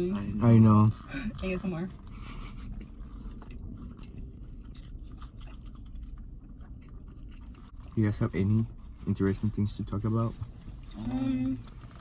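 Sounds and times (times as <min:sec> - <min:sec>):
low background hum: 0:00.0 - 0:12.0
people chewing crunchy food: 0:01.9 - 0:12.0.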